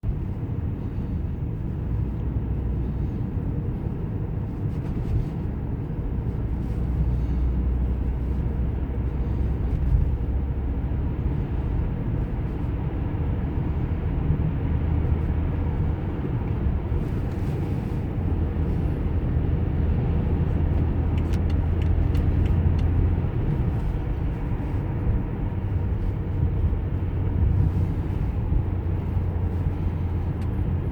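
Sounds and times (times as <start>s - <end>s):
car cabin engine and road hum: 0.0s - 30.9s.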